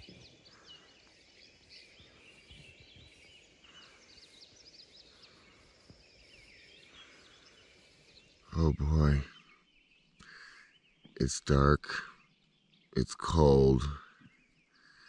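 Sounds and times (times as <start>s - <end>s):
small birds chirping: 0.0s - 15.0s
soft outdoor hiss: 0.0s - 15.0s.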